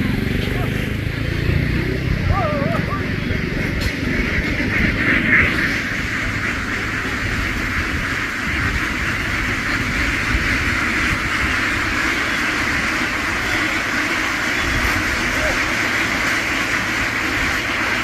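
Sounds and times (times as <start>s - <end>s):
continuous low rumble: 0.0s - 18.0s
flock of ducks quacking: 0.0s - 18.0s.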